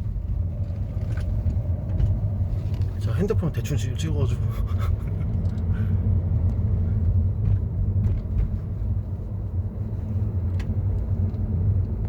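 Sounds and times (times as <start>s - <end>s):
road and drivetrain rumble: 0.0s - 12.0s.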